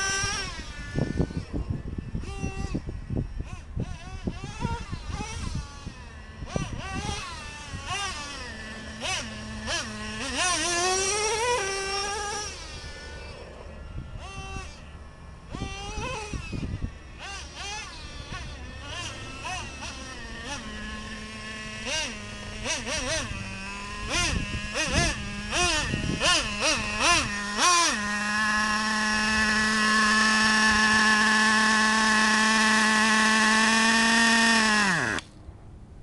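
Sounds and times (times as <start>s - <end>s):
rc truck engine revving: 0.0s - 35.4s.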